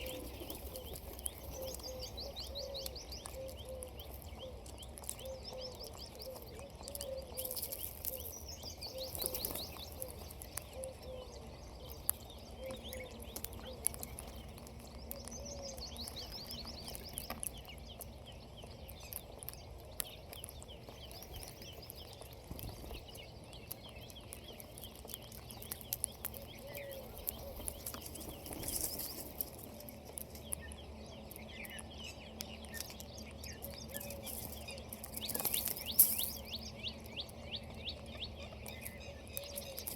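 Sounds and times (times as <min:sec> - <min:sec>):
birds chirping: 0:00.0 - 0:39.9
low background hum: 0:00.0 - 0:39.9
low repeated bird calls: 0:00.0 - 0:39.9.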